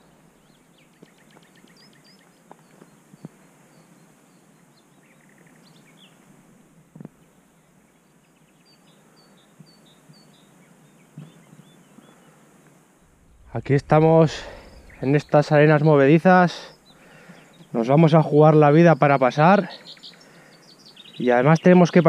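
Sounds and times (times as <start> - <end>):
low outdoor hiss: 0.0 - 22.0
small birds chirping and trilling: 0.0 - 22.0.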